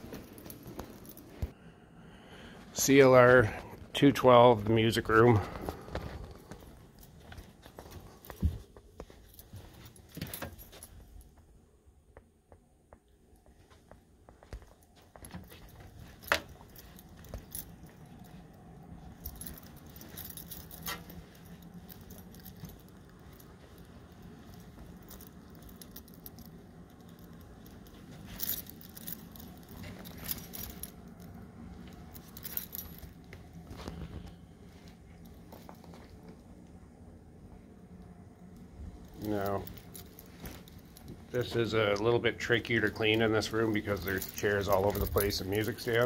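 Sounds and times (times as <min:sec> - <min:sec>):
keys jangling: 0:00.0 - 0:01.6, 0:05.0 - 0:11.4, 0:14.5 - 0:36.3, 0:38.4 - 0:46.0.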